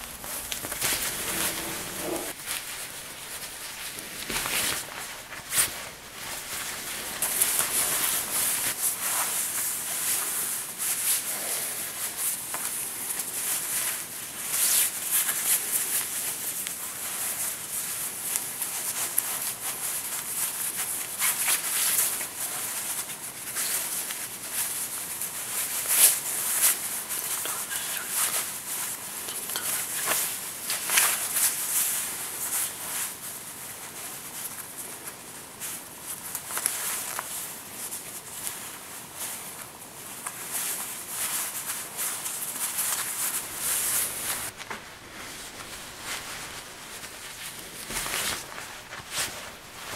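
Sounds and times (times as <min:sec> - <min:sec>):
necktie fabric rustling: 0:00.0 - 0:49.9.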